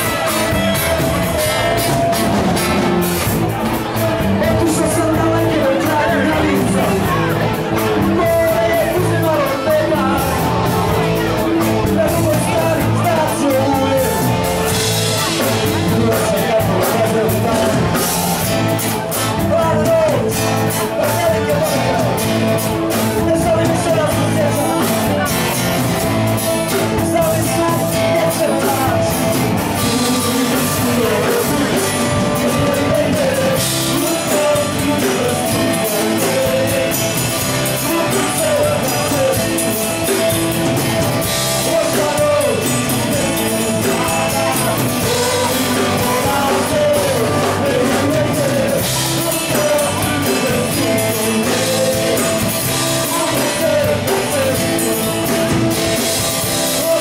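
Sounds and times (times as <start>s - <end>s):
acoustic guitar: 0.0s - 57.0s
drum kit: 0.0s - 57.0s
electric guitar: 0.0s - 57.0s
man singing: 0.0s - 57.0s.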